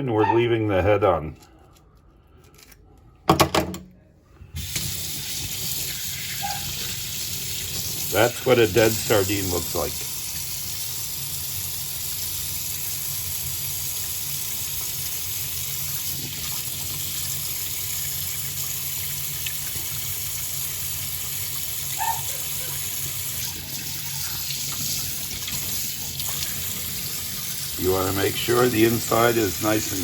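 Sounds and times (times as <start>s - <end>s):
kitchen tap running into sink: 4.6s - 30.0s.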